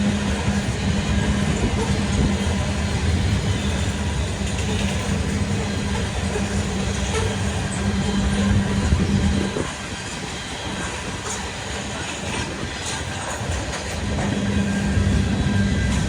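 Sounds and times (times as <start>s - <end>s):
clicks of train wheels: 0.0s - 16.0s
diesel engine drone: 0.0s - 16.0s
freight cars rolling on rails: 0.0s - 16.0s.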